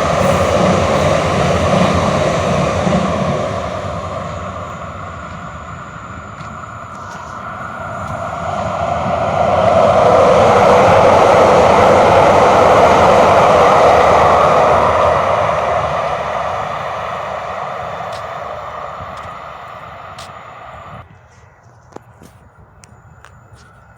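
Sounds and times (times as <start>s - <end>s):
vehicle passing by: 0.0s - 21.0s.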